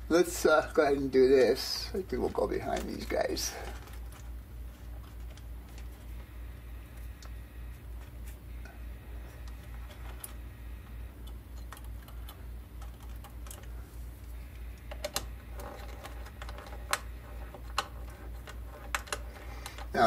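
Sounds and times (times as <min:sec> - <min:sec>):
low pulsing hum: 0:00.0 - 0:20.0.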